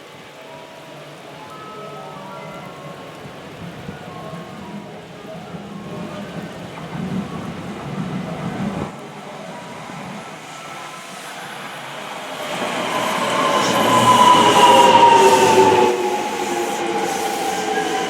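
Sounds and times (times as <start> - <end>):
electric train approaching: 0.0 - 18.0
rail noise: 0.0 - 18.0.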